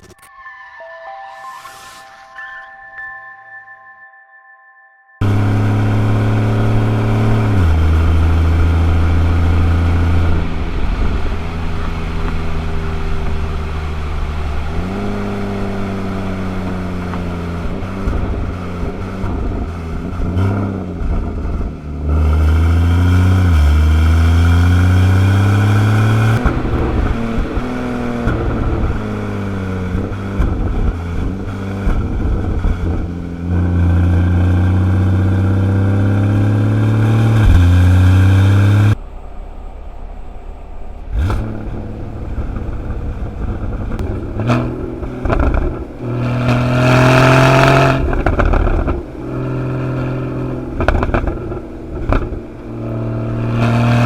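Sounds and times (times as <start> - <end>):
car engine revving: 5.2 - 54.0.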